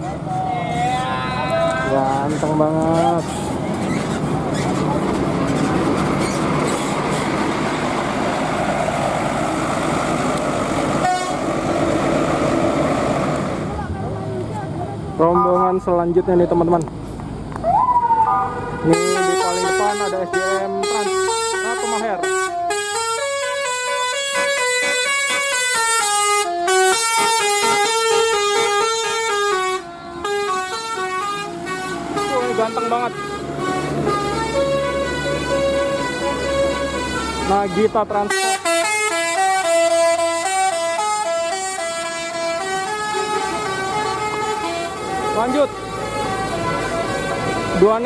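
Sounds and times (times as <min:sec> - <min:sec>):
bus engine rumbling: 0:00.0 - 0:48.0
outdoor noise: 0:00.0 - 0:48.0.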